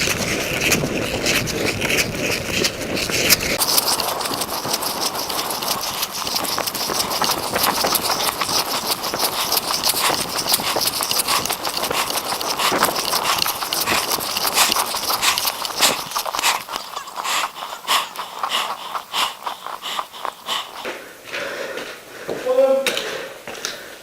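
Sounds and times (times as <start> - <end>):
footsteps crunching on snow: 0.0 - 20.9.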